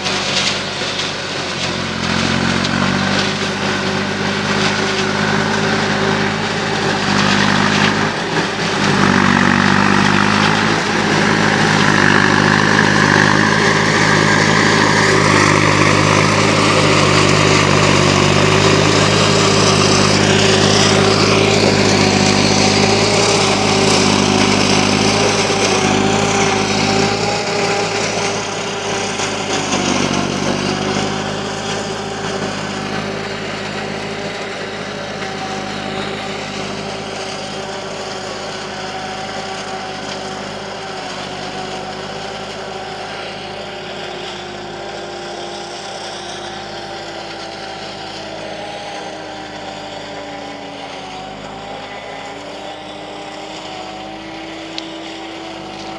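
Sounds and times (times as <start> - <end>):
forage harvester steady tone: 0.0 - 55.9
tractor engine: 0.0 - 55.9.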